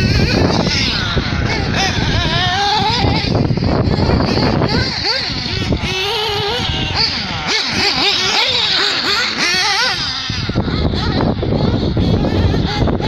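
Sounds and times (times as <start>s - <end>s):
small nitro engines revving: 0.0s - 13.0s.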